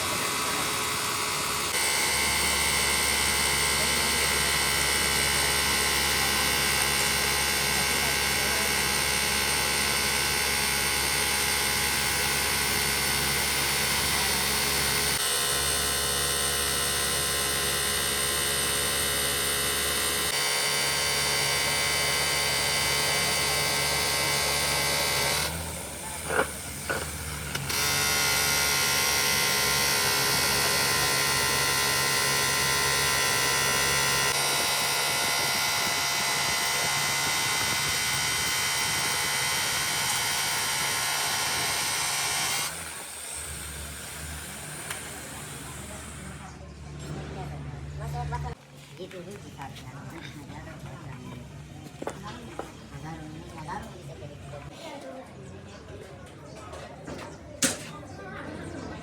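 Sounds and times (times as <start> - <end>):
machinery electric hum: 0.0 - 48.6.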